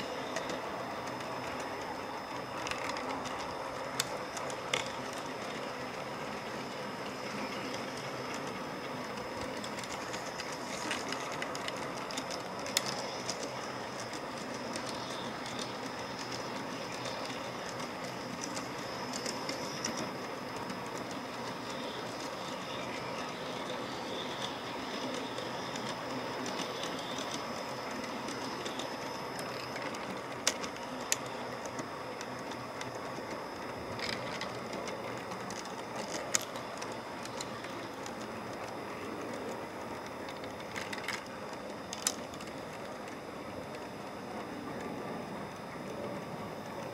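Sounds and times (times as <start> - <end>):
model train wheels clattering on rails: 0.0 - 46.9
sharp track clicks: 0.0 - 46.9.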